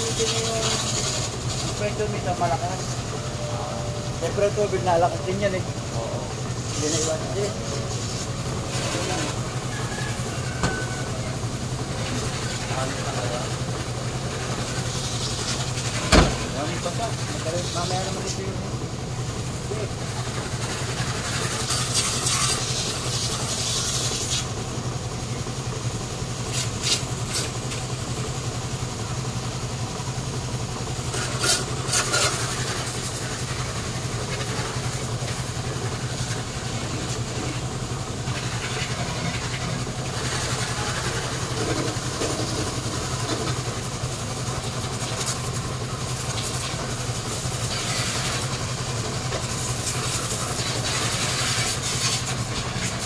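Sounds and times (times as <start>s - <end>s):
motor running steadily: 0.0s - 53.0s.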